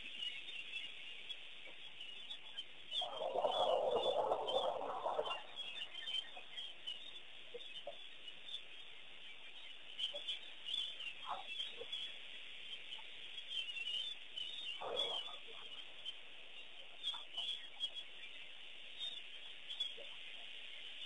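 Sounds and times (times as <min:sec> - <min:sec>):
loud bird calls: 0:00.0 - 0:21.0
small birds chirping: 0:00.0 - 0:21.0.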